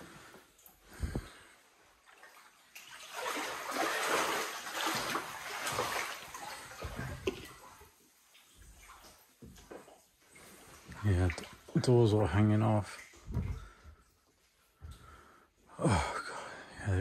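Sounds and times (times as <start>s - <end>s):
wading through splashing water: 0.0s - 15.4s.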